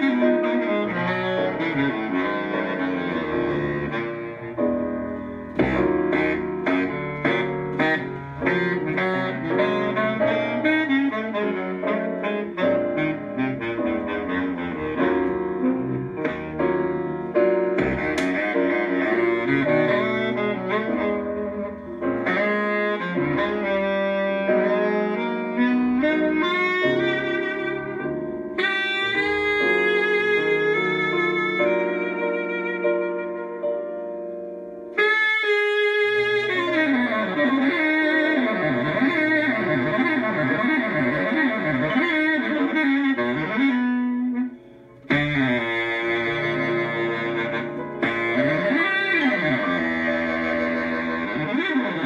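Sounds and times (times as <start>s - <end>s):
instrumental music through speakers: 0.0s - 52.0s.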